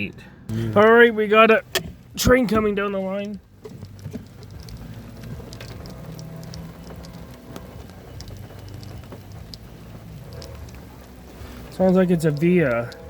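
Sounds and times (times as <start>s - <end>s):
low steady hum: 0.0s - 13.0s
heavy rain falling: 0.5s - 13.0s
drops ticking: 1.6s - 13.0s.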